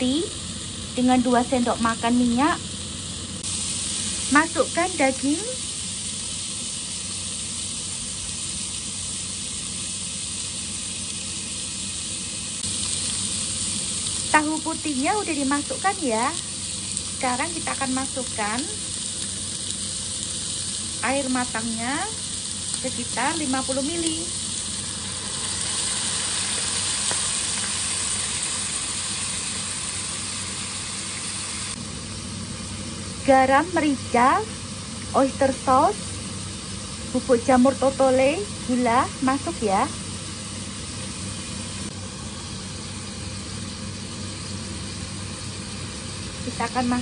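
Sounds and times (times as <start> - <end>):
beef sizzling in hot oil: 0.0 - 47.0.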